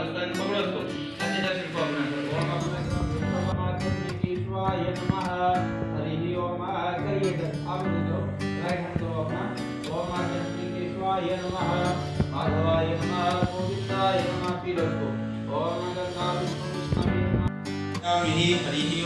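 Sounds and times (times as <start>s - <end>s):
song with guitar and bass: 0.0s - 19.0s.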